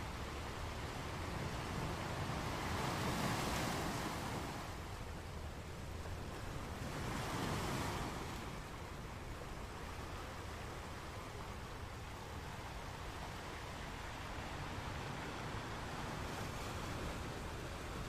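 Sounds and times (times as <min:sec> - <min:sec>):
waves washing in: 0:00.0 - 0:18.0.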